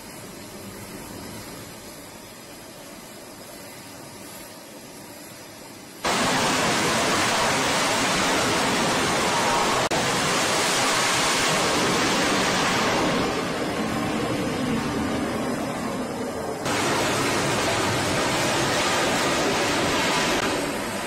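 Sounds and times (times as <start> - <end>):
jet engine at full power: 0.0 - 21.0
steady hiss: 0.0 - 21.0.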